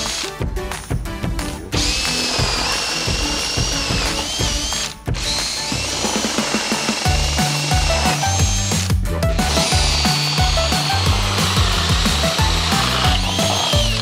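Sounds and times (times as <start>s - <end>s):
cordless drill whining: 0.0s - 0.3s, 1.8s - 14.0s
background music with bass: 0.0s - 14.0s.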